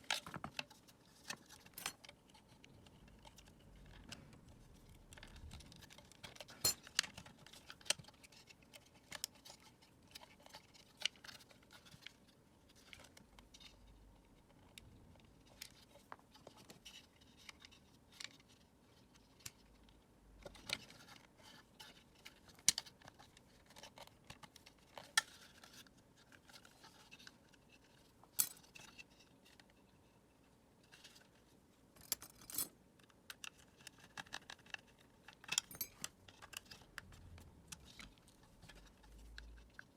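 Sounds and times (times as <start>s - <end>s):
plastic parts clicking and scraping: 0.0s - 29.8s, 32.0s - 39.9s.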